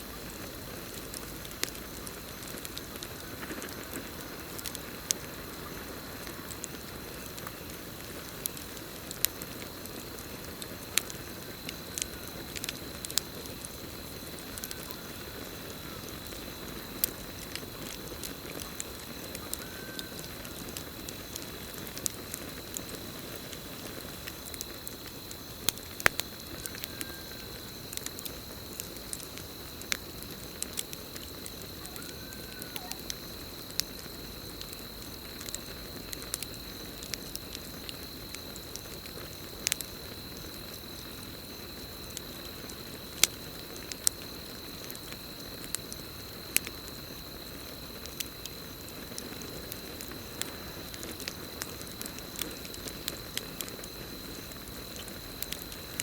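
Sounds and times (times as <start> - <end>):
campfire crackling: 0.0 - 56.0
crickets trilling: 0.0 - 56.0.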